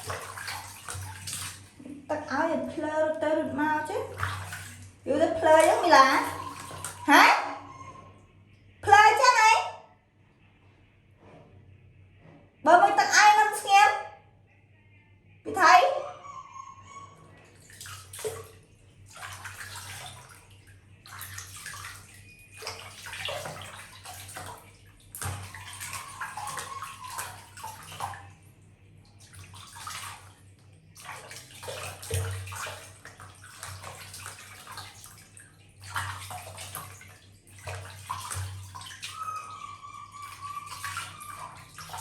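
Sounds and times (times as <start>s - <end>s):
water splashing and sloshing: 0.0s - 9.2s, 17.2s - 42.0s.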